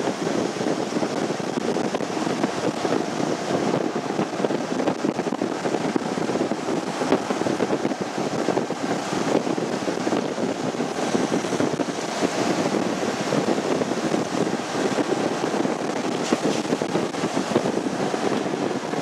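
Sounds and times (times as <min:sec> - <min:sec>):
heavy storm surf: 0:00.0 - 0:19.0
wind buffeting microphone: 0:00.0 - 0:19.0.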